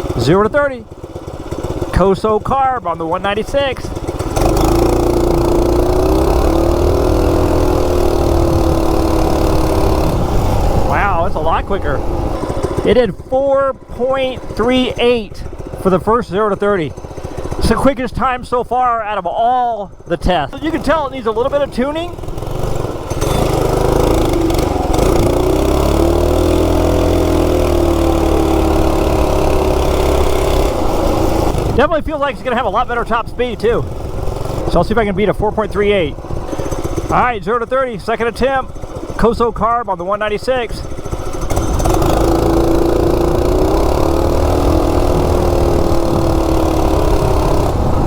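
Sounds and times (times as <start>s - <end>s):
minibike engine at full throttle: 0.0s - 48.0s.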